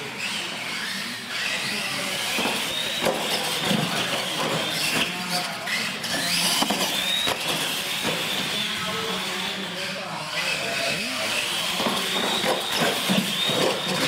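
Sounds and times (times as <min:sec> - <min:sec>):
electric motors whining: 0:00.0 - 0:14.0
toy trucks hitting ramps: 0:00.7 - 0:09.6, 0:11.2 - 0:14.0.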